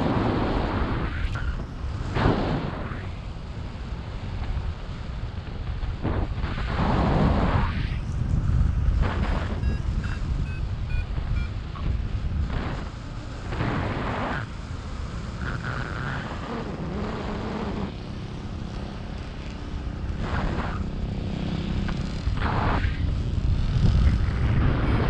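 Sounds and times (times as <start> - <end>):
wind buffeting microphone: 0.0 - 15.6, 16.3 - 25.0.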